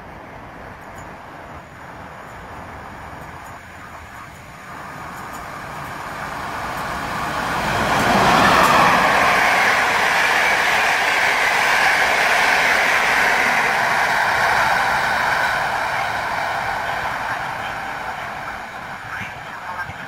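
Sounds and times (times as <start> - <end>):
train wheels rushing on rails: 0.0 - 20.0.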